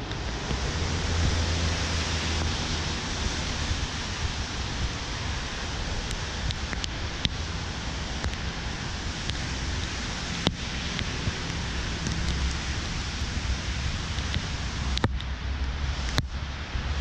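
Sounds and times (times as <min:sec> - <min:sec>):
falling rain hiss: 0:00.0 - 0:17.0
wind buffeting microphone: 0:00.0 - 0:17.0.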